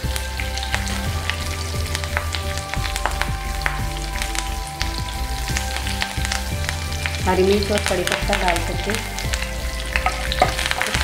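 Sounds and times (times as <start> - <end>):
crackles and pops of spluttering seeds: 0.0 - 11.0
seeds sizzling in hot oil: 0.0 - 11.0.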